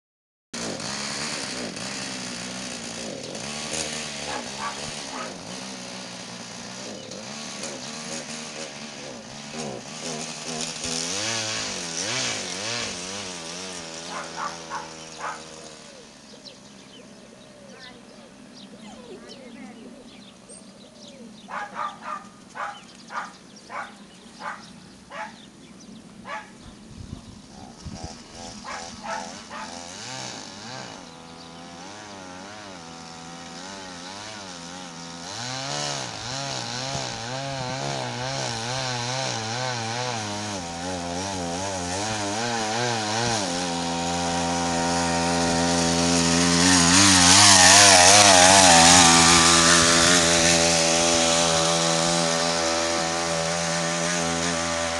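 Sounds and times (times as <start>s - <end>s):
small engine passing by: 0.6s - 54.9s.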